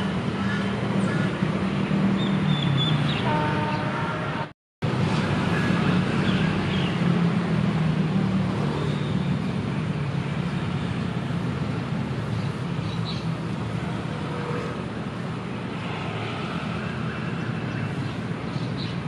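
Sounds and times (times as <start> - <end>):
low rumble of engines and traffic: 0.0 - 19.0.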